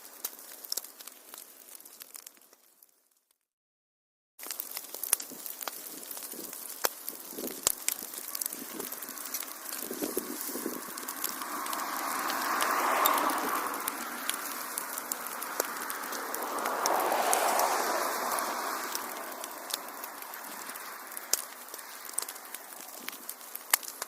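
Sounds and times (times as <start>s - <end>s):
sharp pops of fire: 0.0s - 2.9s, 4.4s - 24.0s
wood fire crackling: 0.0s - 3.3s, 4.4s - 24.0s
rushing flame noise: 4.4s - 24.0s.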